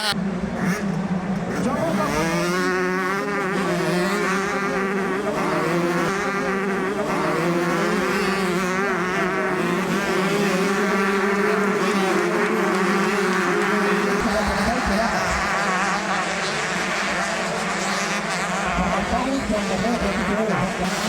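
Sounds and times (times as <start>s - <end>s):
motocross bikes racing: 0.0s - 21.0s.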